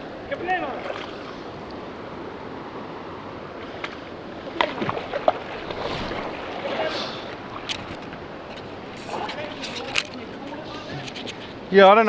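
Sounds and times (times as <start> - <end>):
river water rushing: 0.0 - 12.0
water splashing: 0.0 - 12.0.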